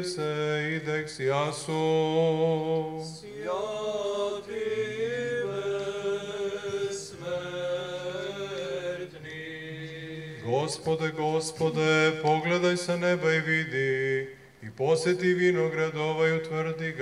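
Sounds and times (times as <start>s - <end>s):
male voices chanting: 0.0s - 14.0s.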